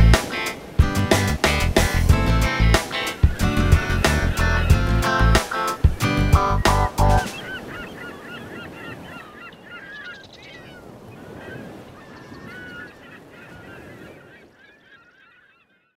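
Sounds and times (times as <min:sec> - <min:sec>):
flock of birds calling: 0:02.7 - 0:16.0.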